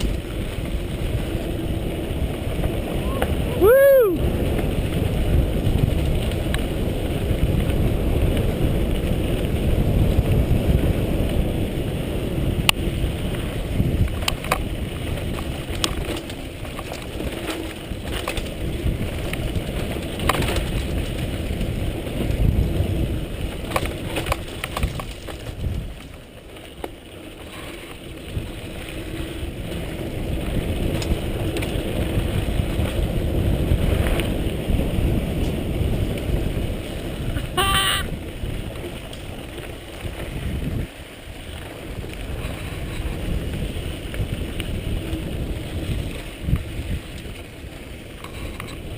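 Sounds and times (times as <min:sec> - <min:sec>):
bike clicks and rattles: 0:00.0 - 0:48.9
wind rumbling on microphone: 0:00.0 - 0:48.9.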